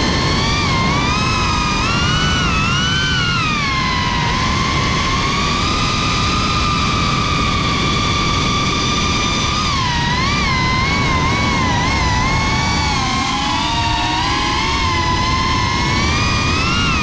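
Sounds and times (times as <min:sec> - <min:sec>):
drone motors whining: 0:00.0 - 0:17.0
rushing wind noise: 0:00.0 - 0:17.0.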